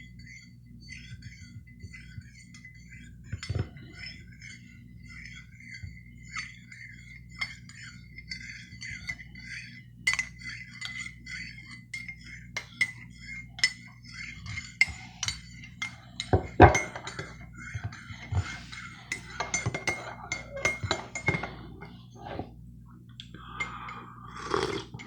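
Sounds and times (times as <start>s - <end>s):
teaspoon clinking in a cup: 0.0s - 22.4s.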